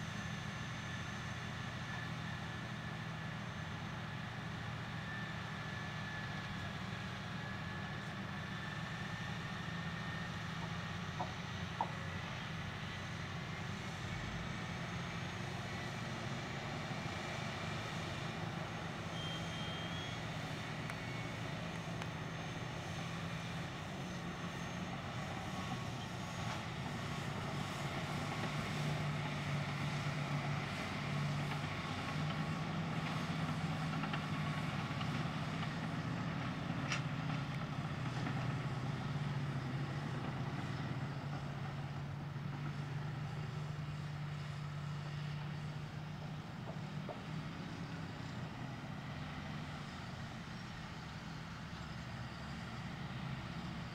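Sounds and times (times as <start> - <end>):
heavy diesel engines droning: 0.0 - 53.9.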